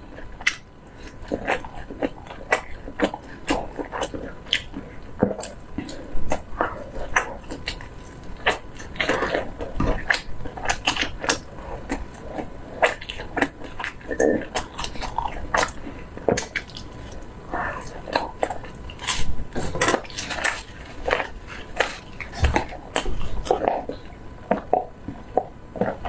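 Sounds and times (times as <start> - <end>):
close chewing and mouth smacks: 0.0 - 26.0.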